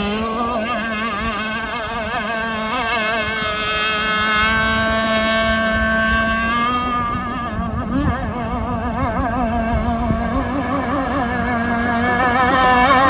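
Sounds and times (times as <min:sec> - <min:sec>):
toy boat motor whining: 0:00.0 - 0:13.0.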